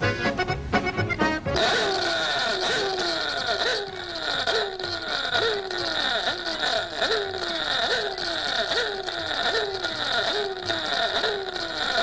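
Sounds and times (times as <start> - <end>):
rapid siren-like wail: 1.6 - 12.0.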